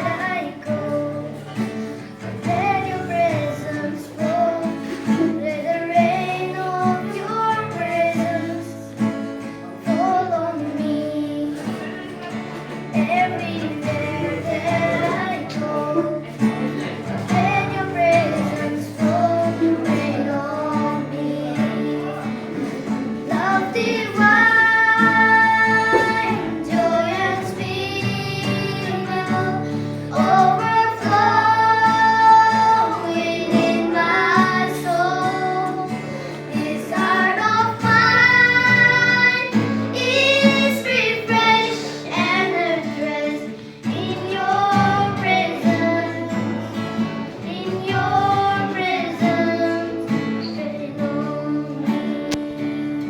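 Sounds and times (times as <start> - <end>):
women singing worship song: 0.0 - 8.8, 9.9 - 53.0
guitar accompaniment: 0.0 - 53.0.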